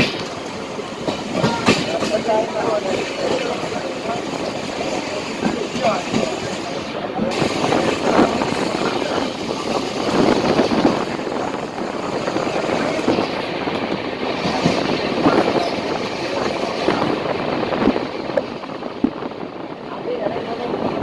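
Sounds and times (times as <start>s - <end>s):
train wheel and wind rush: 0.0s - 21.0s.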